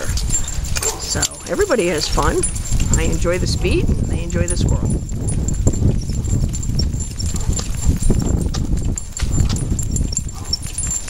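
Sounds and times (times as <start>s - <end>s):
cart wheels rumbling: 0.0s - 11.0s
patter of dog paws: 0.0s - 11.0s
small bells jingling: 0.0s - 11.0s.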